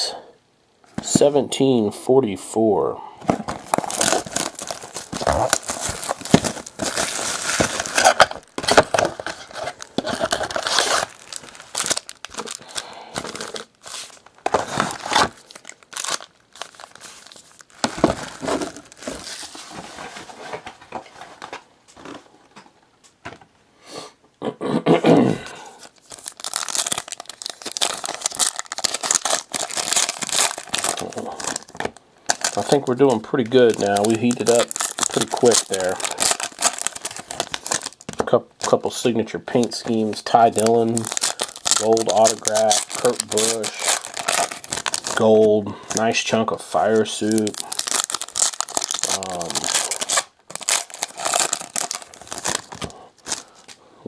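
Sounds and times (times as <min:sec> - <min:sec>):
foil wrappers crinkling and tearing: 0:03.3 - 0:20.4, 0:25.7 - 0:53.8.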